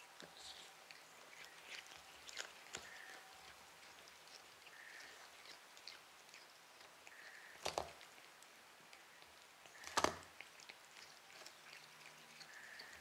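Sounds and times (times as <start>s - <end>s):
cats chewing grass crunches: 0.0s - 13.0s.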